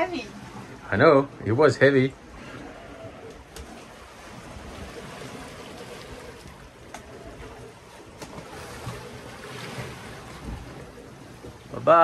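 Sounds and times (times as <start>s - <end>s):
sea water rushing past a boat: 0.0s - 12.0s.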